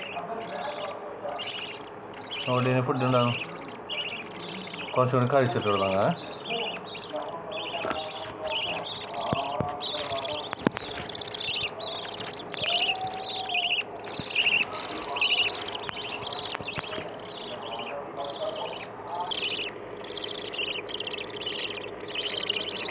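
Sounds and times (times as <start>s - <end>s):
bird chicks cheeping: 0.0s - 22.9s.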